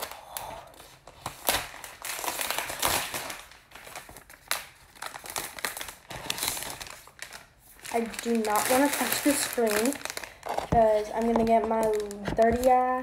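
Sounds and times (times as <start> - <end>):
plastic wrap crinkling and peeling: 0.0 - 13.0.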